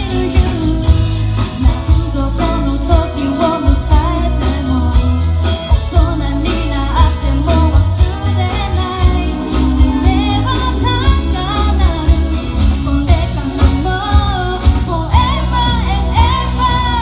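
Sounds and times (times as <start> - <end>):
christmas pop song: 0.0 - 17.0
person singing: 0.0 - 17.0.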